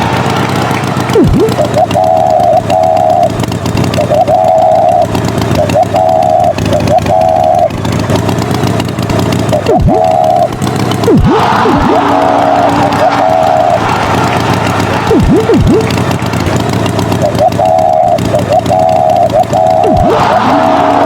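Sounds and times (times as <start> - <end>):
motor running: 0.0 - 21.0
short high tones: 0.9 - 7.7, 9.5 - 16.0, 17.1 - 21.0.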